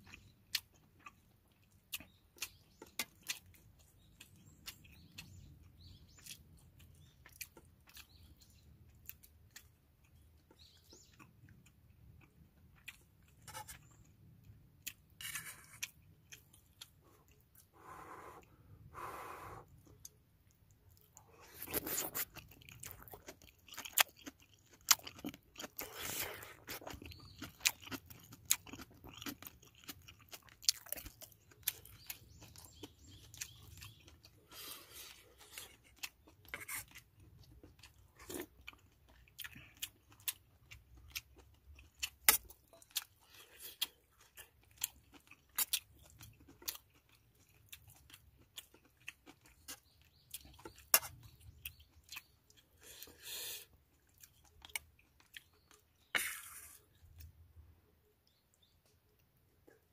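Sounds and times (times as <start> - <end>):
person chewing and crunching: 0.0 - 18.6, 19.6 - 57.4.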